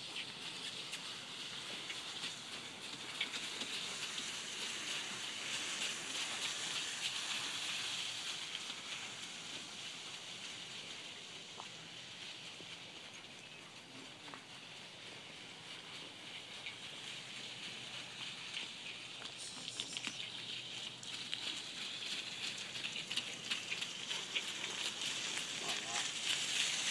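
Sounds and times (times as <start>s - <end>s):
hooves and cart wheels on gravel: 0.0s - 26.9s.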